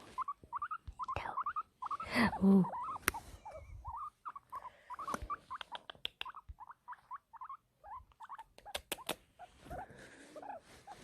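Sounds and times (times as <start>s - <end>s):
small animal squeaking: 0.0s - 11.0s.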